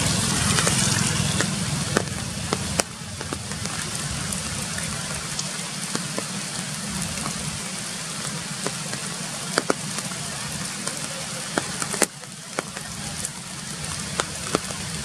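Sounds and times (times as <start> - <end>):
drops tapping leaves: 0.0 - 15.0
rain on foliage: 0.0 - 15.0.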